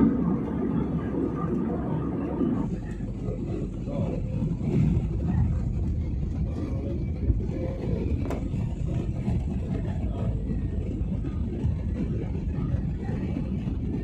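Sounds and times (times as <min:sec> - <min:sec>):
jet cabin rumble: 0:00.0 - 0:14.0.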